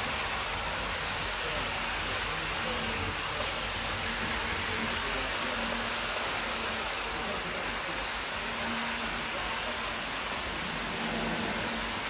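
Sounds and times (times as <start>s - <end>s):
model train whirring on rails: 0.0s - 12.0s.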